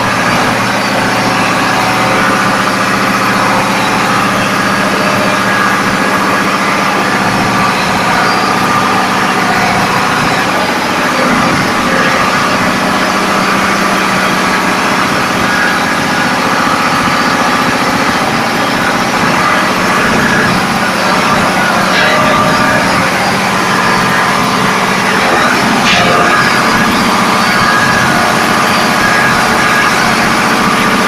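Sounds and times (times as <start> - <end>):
low hum: 0.0 - 31.0
mechanical clatter: 0.0 - 31.0
ship engine drone: 0.0 - 31.0.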